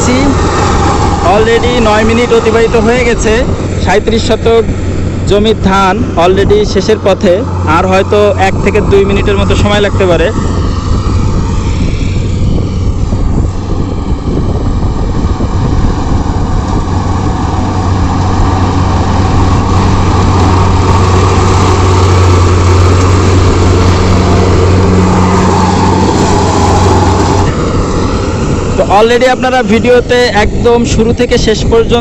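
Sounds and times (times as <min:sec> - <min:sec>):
combine harvester engine hum: 0:00.0 - 0:32.0
machinery whine: 0:00.0 - 0:32.0.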